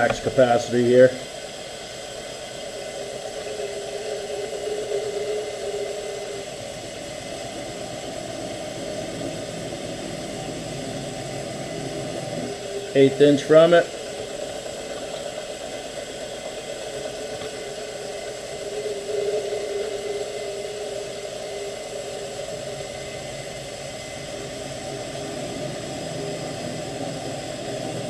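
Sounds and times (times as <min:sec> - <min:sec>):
drill bit cutting: 0:00.0 - 0:28.0
drill press running: 0:00.0 - 0:28.0.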